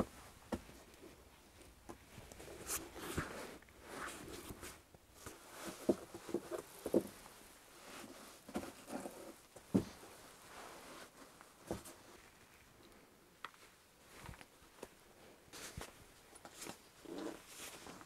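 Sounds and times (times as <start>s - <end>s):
rustling of boots and insoles: 0.0s - 18.0s.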